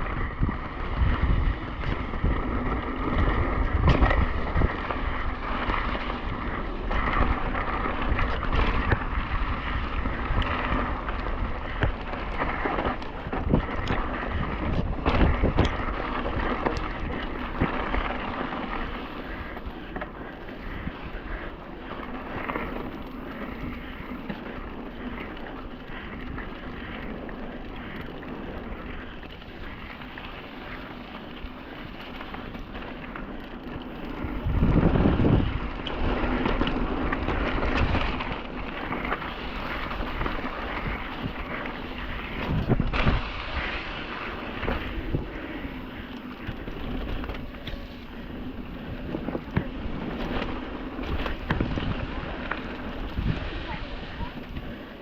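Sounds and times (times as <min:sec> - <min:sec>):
bike rattling on dirt trail: 0:00.0 - 0:55.0
wind buffeting microphone: 0:00.0 - 0:55.0.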